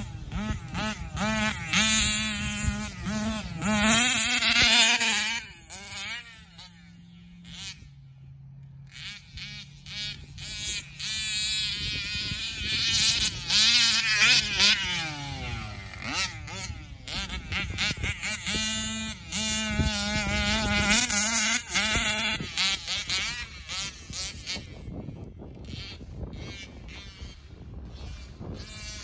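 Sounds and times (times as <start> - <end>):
small two-stroke engine revving: 0.0 - 29.0.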